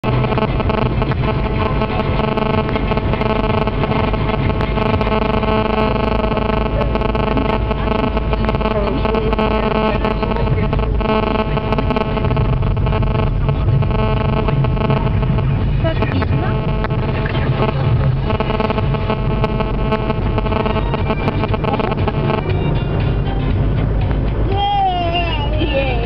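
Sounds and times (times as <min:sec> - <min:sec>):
car engine drone: 0:00.0 - 0:26.0
road and tyre rumble: 0:00.0 - 0:26.0.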